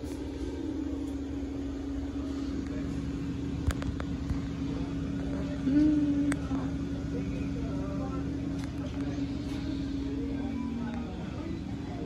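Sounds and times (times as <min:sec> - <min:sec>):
store background hum: 0:00.0 - 0:12.0.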